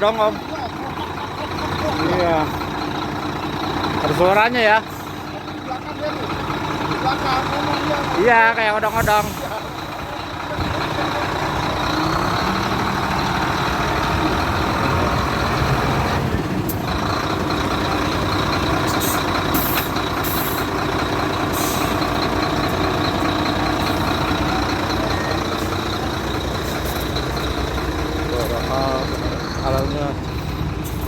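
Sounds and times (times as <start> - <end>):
concrete mixer truck running: 0.0 - 31.0.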